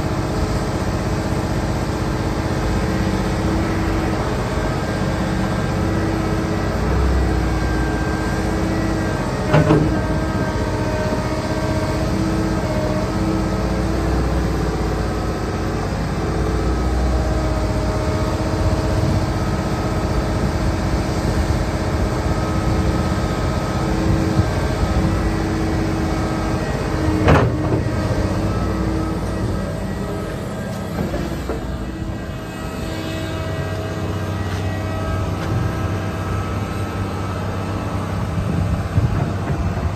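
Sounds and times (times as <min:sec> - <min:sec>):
excavator diesel engine running: 0:00.0 - 0:39.9
hydraulic whine: 0:00.0 - 0:39.9.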